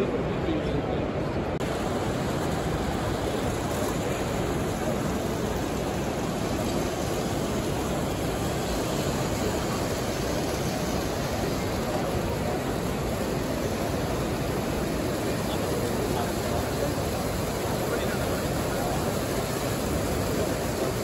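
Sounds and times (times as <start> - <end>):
distant crowd murmur: 0.0 - 21.0.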